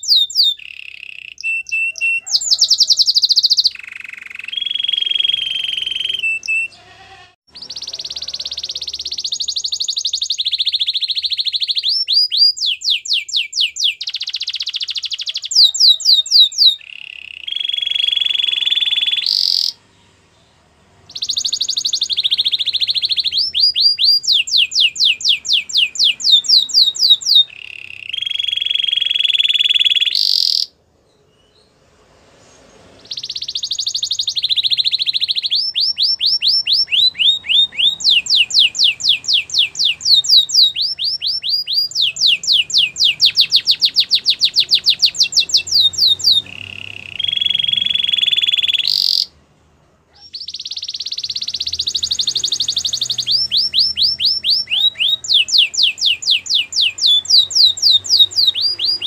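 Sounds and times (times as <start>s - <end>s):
canary singing: 0.0s - 49.5s, 50.1s - 59.0s.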